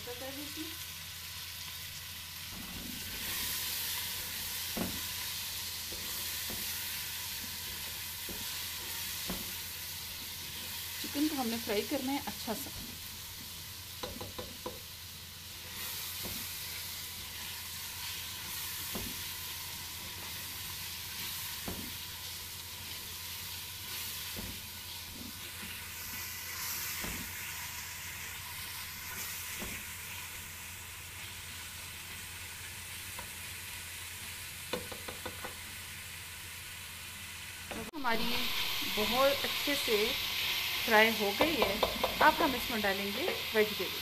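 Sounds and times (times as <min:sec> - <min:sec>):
chicken sizzling in oil: 0:00.0 - 0:44.0.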